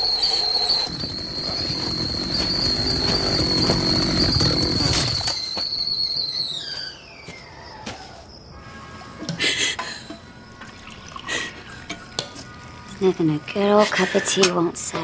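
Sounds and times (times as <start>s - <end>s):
kettle whistling: 0.0s - 15.0s.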